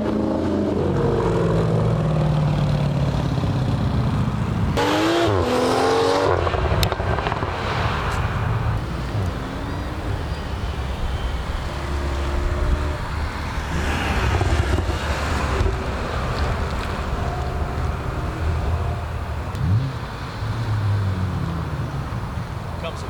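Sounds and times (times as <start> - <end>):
engine revving: 0.0 - 22.3
car engines running: 0.0 - 23.0
road noise: 0.0 - 23.0.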